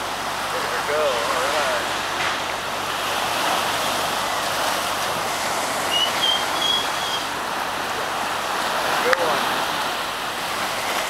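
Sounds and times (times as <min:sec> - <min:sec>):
ocean surf rushing: 0:00.0 - 0:11.0.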